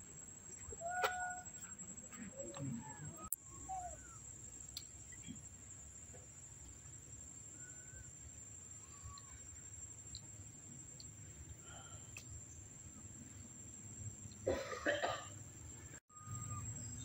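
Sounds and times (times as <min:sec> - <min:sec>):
faint bird chirps: 0:00.5 - 0:14.5, 0:15.8 - 0:17.0.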